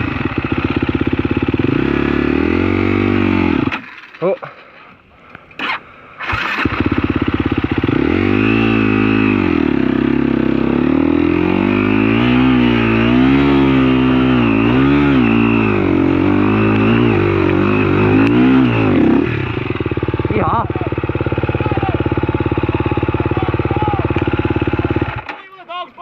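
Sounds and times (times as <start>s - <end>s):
dirt bike engine revving: 0.0s - 4.7s, 5.6s - 25.3s.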